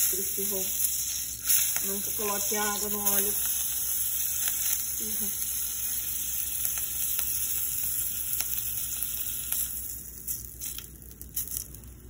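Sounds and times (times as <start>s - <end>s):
oil crackling: 0.0s - 12.0s
shrimp sizzling in hot oil: 0.0s - 12.0s.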